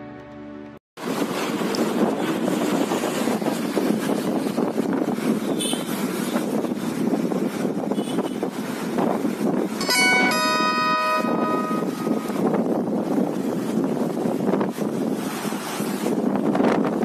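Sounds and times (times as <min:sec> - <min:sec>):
rushing floodwater: 0:01.0 - 0:17.0.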